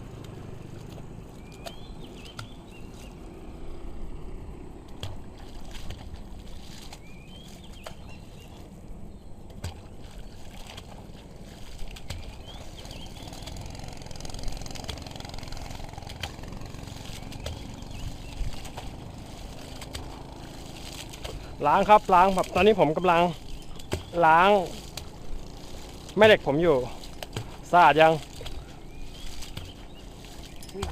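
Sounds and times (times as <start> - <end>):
low outdoor rumble: 0.0 - 30.9.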